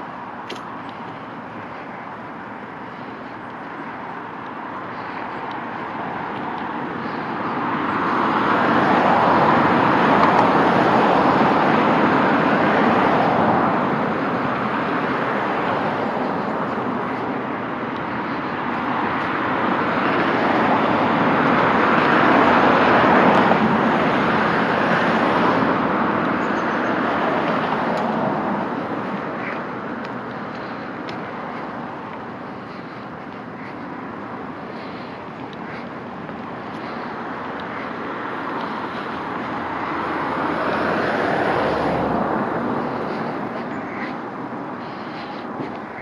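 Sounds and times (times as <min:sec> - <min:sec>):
cars passing: 0:00.0 - 0:46.0.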